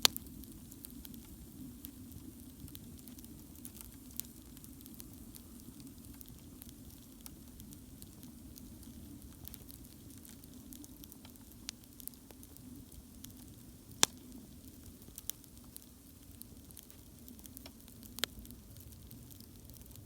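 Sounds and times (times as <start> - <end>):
campfire burning: 0.0 - 20.0
fire crackles and pops: 0.0 - 20.0.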